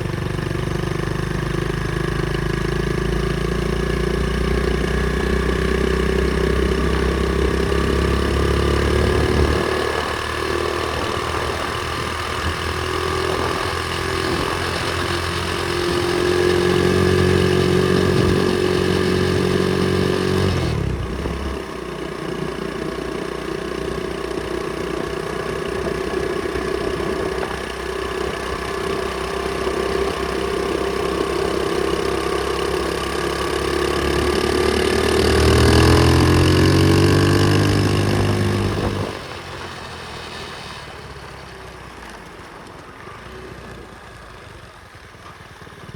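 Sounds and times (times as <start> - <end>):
pit bike engine running: 0.0 - 40.0.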